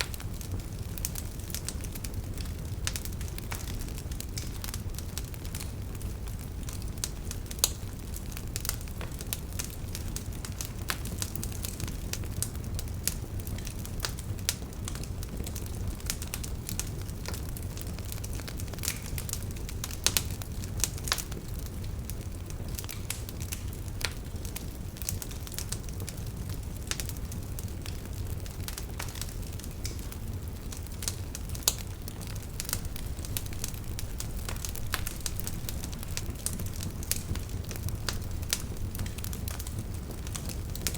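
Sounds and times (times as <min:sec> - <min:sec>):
campfire crackling and popping: 0:00.0 - 0:40.9
low rumble of flames: 0:00.0 - 0:40.9.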